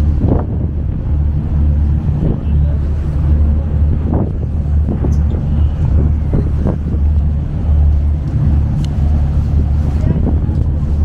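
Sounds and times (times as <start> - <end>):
ferry engine droning: 0.0 - 11.0.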